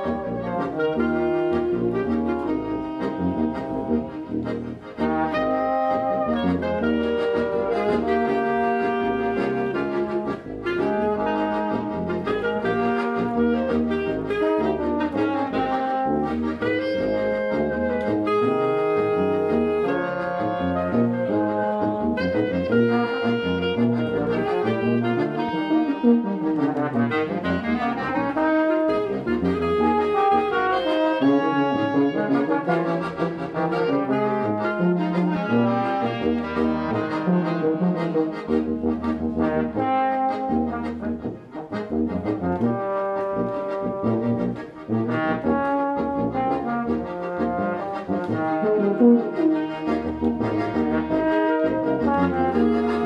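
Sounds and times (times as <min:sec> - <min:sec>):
clarinet: 0:00.0 - 0:53.0
piano accordion: 0:00.0 - 0:53.0
trombone: 0:00.0 - 0:53.0
tuba: 0:00.0 - 0:53.0.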